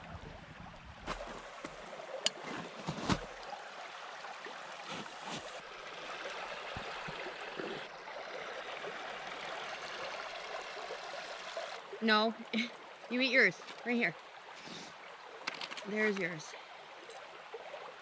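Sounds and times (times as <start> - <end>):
creek flowing: 0.0 - 18.0.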